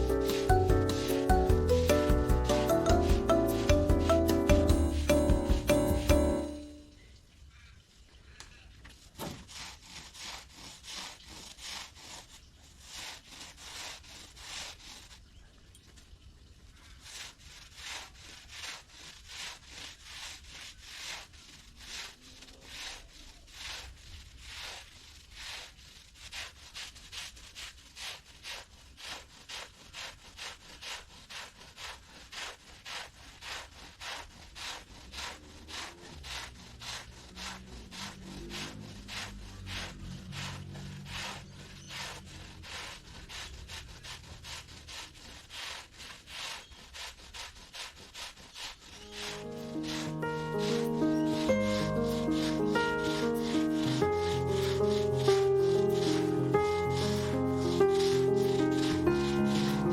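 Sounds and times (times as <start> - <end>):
carpet being scrubbed: 0.0 - 6.8, 8.9 - 15.5, 16.8 - 59.9.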